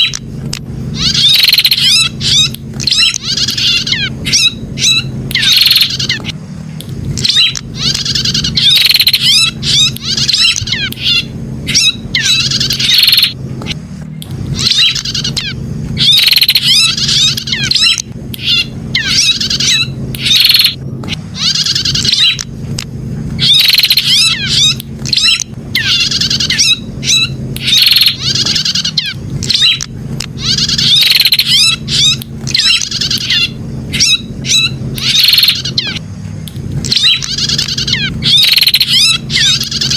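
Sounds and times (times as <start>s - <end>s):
bird chirping song: 0.0s - 0.2s, 0.9s - 6.4s, 7.1s - 22.6s, 23.3s - 39.9s
steady low hum: 0.0s - 39.9s.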